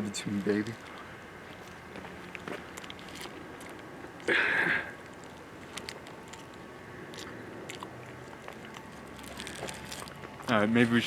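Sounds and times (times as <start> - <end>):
person chewing cheese: 0.7 - 10.6.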